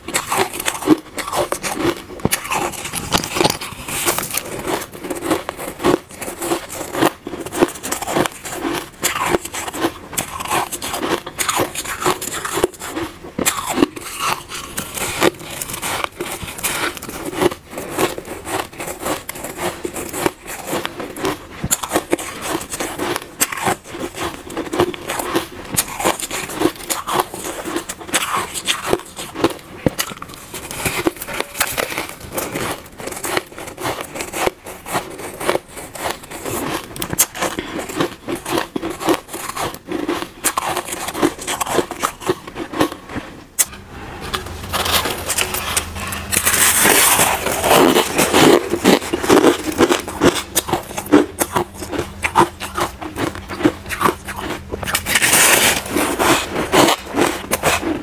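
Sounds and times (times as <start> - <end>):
chewing shaved ice: 0.0 - 43.7, 44.4 - 58.0.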